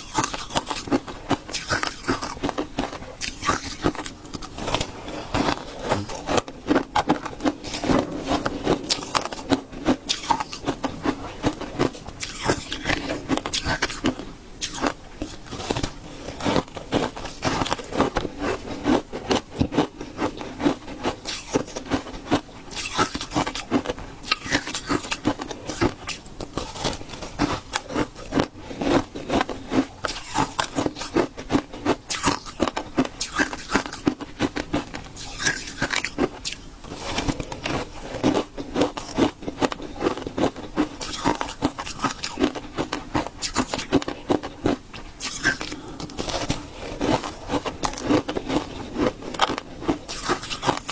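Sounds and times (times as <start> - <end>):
shaved ice crunching: 3.2 - 34.5, 35.2 - 50.9.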